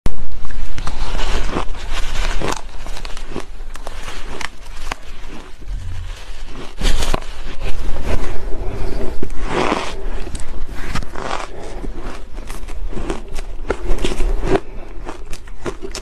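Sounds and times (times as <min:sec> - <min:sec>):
shaved ice crunching when chewed: 0:00.3 - 0:16.0.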